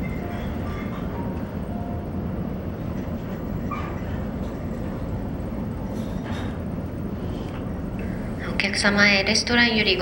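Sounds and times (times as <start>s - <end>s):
low rumble of ship engines: 0.0s - 10.0s.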